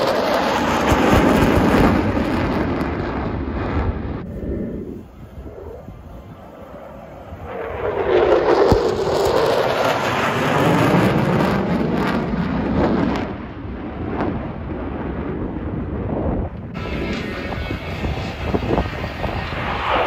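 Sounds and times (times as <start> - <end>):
jet aircraft roaring past: 0.0 - 20.0.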